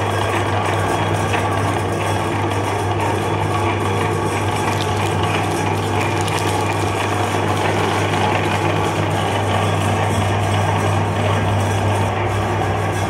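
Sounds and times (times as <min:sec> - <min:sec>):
electric meat grinder running: 0:00.0 - 0:11.5.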